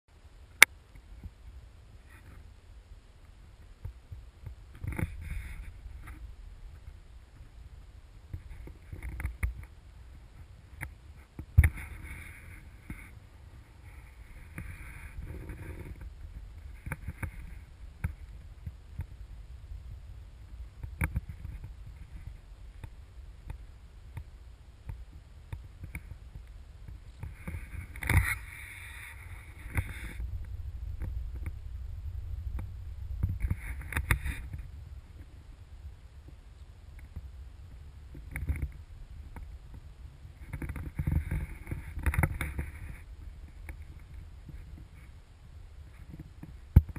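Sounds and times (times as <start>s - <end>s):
wind rumble on microphone: 0.2s - 46.9s.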